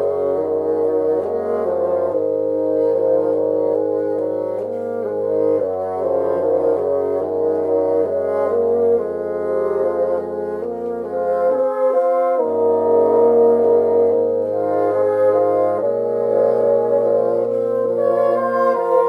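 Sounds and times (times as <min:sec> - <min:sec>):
bassoons playing: 0:00.0 - 0:19.0
piano: 0:00.0 - 0:19.0.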